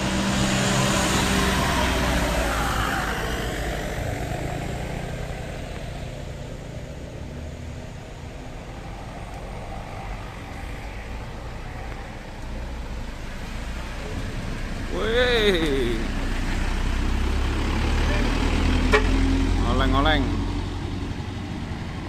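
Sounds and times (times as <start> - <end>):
diesel truck engines rumbling: 0.0 - 22.0
truck driving up close: 0.0 - 22.0.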